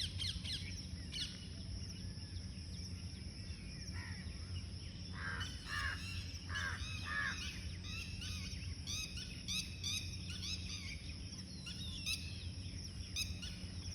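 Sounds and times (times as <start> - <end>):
low bird calls: 0.0 - 13.9
steady low hum: 0.0 - 13.9.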